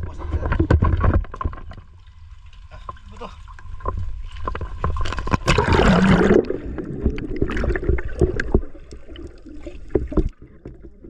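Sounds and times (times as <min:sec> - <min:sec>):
water gurgling and sloshing: 0:00.0 - 0:11.0
water splashing: 0:01.3 - 0:11.0.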